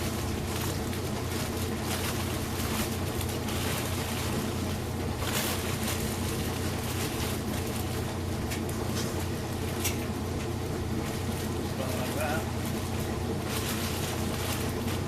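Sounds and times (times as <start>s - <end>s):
grain mill grinding: 0.0s - 15.0s.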